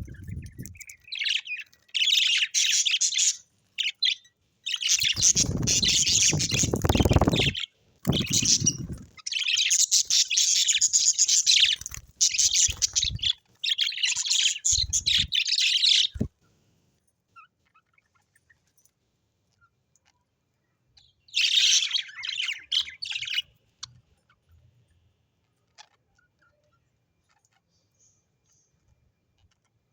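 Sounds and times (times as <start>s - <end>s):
birds chattering and chirping: 0.0s - 16.3s, 17.3s - 29.9s.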